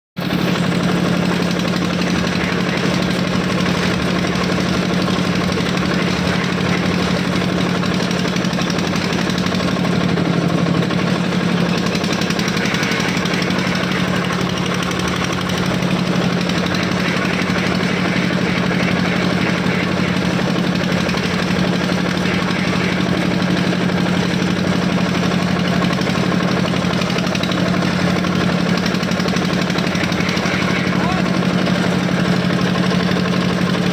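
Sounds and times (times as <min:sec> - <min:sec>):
engine hum: 0:00.2 - 0:33.9
mechanical clatter: 0:00.2 - 0:33.9.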